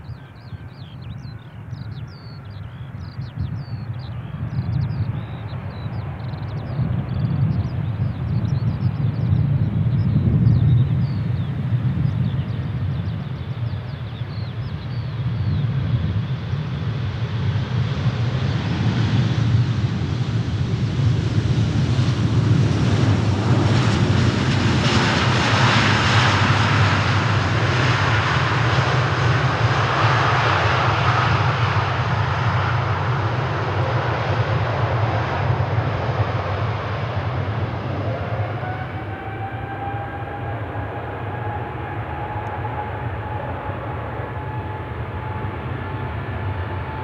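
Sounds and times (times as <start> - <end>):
jet engines rumbling past: 0.0 - 47.0.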